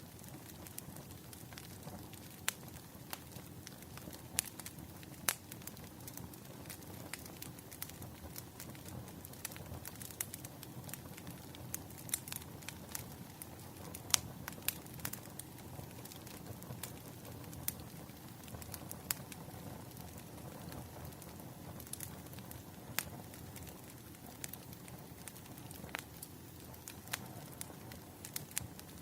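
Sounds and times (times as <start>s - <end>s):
low fire rumble: 0.0s - 29.0s
wood fire crackling: 0.0s - 29.0s.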